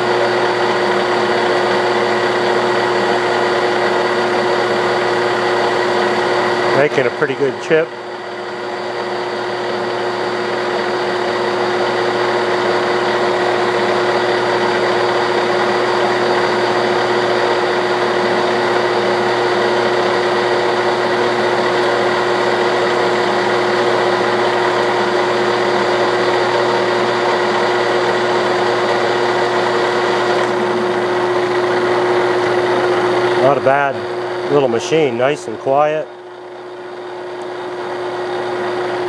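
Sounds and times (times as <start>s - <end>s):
lathe running: 0.0s - 39.0s.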